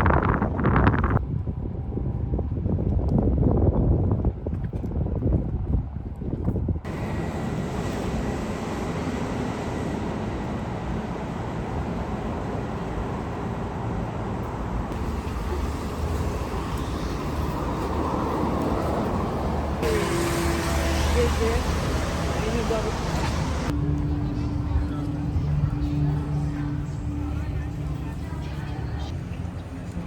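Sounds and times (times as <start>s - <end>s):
rumbling traffic noise: 0.0s - 3.6s, 5.5s - 30.0s.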